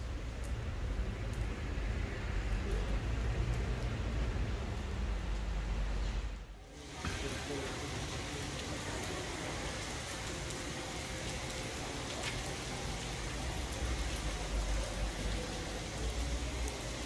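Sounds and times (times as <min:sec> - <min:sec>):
rain on wet pavement: 0:00.0 - 0:17.0.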